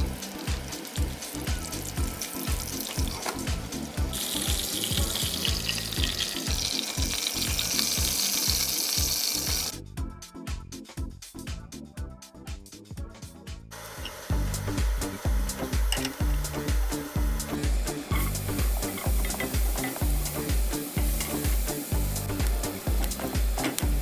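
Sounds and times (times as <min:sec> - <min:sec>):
meat sizzling in hot oil: 0:00.0 - 0:09.8, 0:13.8 - 0:24.0
background music with steady beat: 0:00.0 - 0:24.0.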